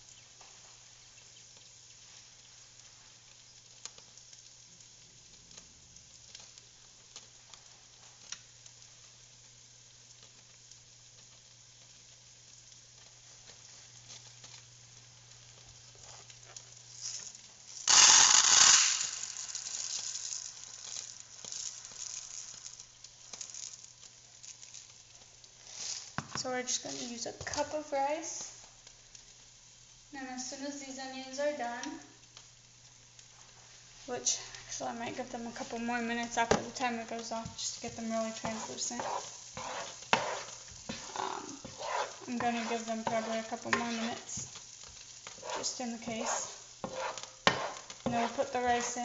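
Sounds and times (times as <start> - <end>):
onions sizzling in butter: 0.0 - 49.0.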